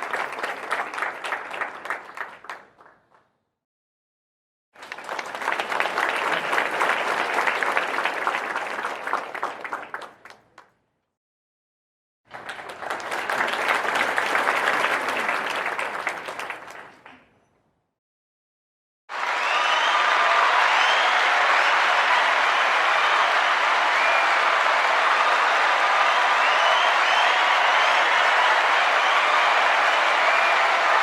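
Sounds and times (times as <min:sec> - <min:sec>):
crowd applause: 0:00.0 - 0:03.0, 0:04.8 - 0:10.7, 0:12.3 - 0:17.2, 0:19.1 - 0:31.0.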